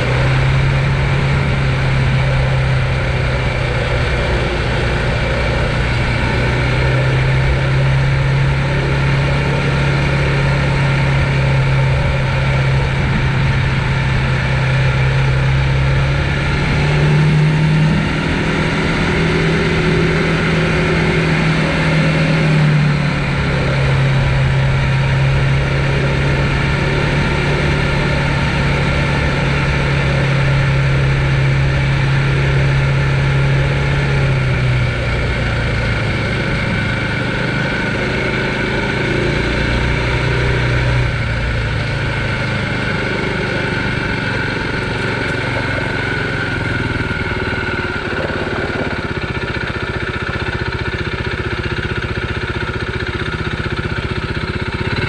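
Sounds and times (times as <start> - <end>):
electric bike motor humming: 0.0 - 55.0
steady rushing noise: 0.0 - 55.0.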